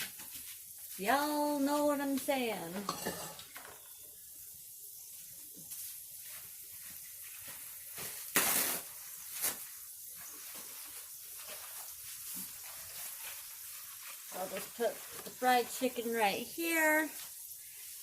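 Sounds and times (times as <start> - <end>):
chicken frying in hot oil: 0.0 - 18.0.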